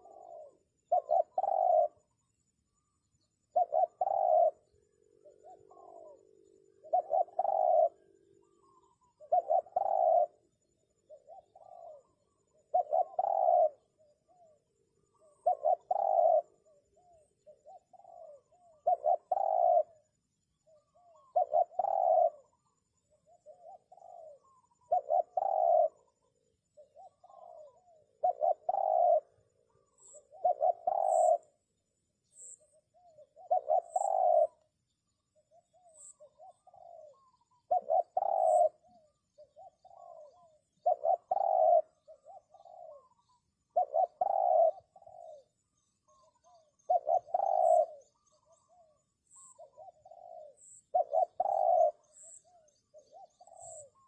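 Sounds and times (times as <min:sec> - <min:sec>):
dove cooing: 0:00.0 - 0:31.6, 0:32.2 - 0:54.0.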